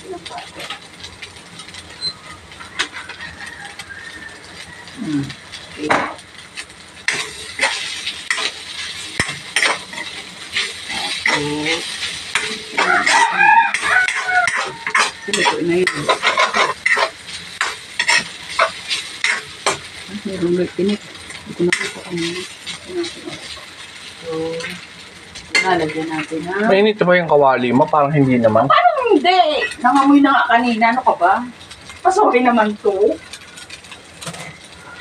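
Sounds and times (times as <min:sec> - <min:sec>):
frying sizzle: 0:00.0 - 0:35.0
spatula scraping a steel wok: 0:00.6 - 0:04.7, 0:05.3 - 0:26.4, 0:29.3 - 0:30.4, 0:33.2 - 0:35.0.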